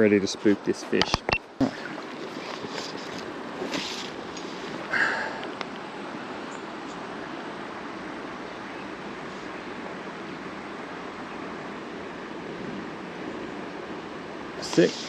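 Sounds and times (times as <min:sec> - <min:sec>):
stream rushing: 0:00.5 - 0:15.0.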